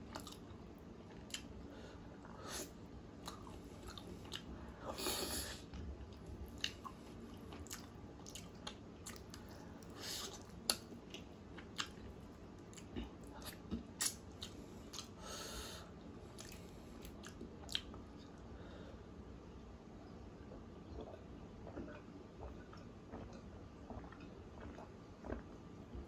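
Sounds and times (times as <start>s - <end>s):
person chewing food: 0.1s - 0.5s, 1.1s - 1.5s, 2.2s - 15.5s, 16.3s - 18.4s, 20.9s - 25.6s.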